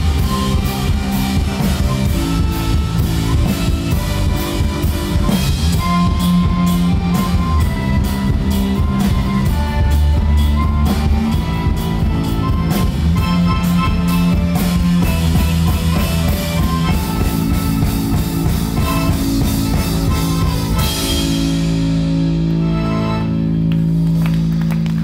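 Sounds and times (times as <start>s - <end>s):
live band with accordion: 0.0s - 25.0s.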